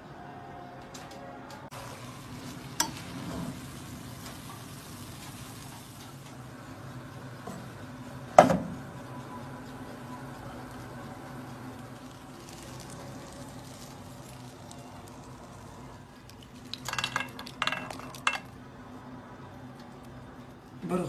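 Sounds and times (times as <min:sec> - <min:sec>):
grain sizzling in a hot pot: 0:01.7 - 0:21.0.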